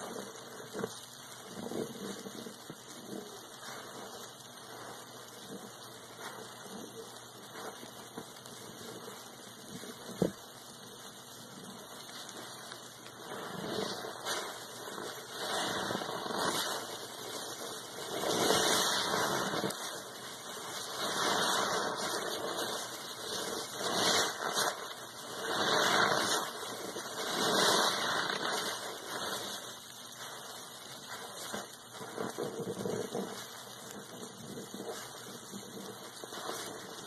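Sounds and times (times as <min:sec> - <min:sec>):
sponge squelching in soapy water: 0:00.0 - 0:10.5, 0:11.4 - 0:37.0.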